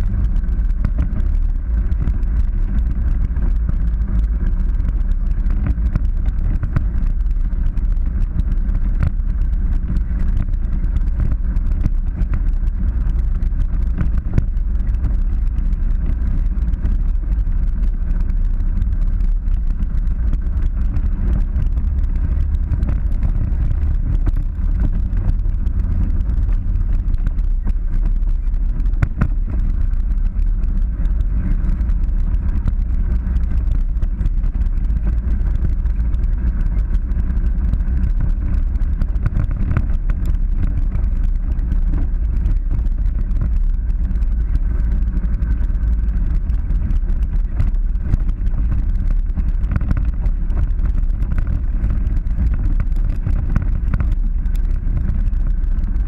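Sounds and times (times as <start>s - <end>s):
off-road vehicle engine rumble: 0.0s - 56.0s
rattles and clicks: 0.0s - 56.0s.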